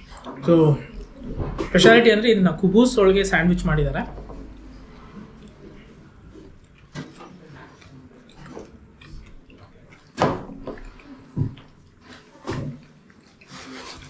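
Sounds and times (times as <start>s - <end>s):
people chewing: 0.0s - 2.0s, 4.0s - 14.0s.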